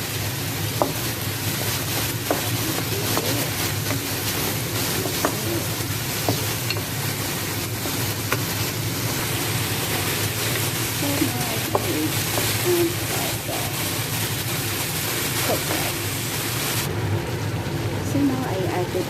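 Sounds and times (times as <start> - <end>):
utensil scraping wok: 0.0 - 16.9
vegetables sizzling in oil: 0.0 - 19.0.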